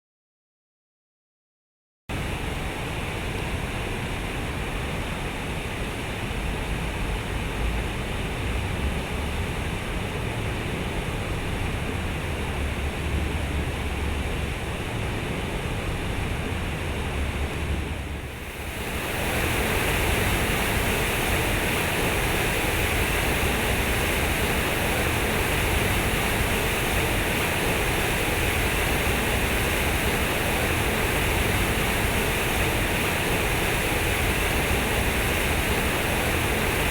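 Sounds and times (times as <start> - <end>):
water rushing: 2.2 - 36.9.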